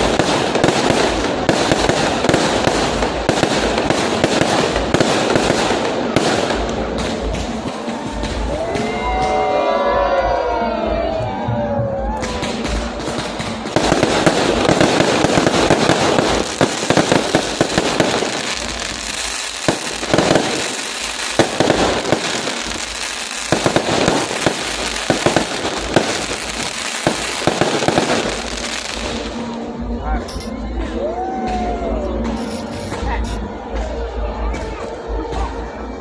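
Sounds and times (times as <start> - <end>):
fireworks crackling and banging: 0.0 - 9.7, 11.6 - 36.0.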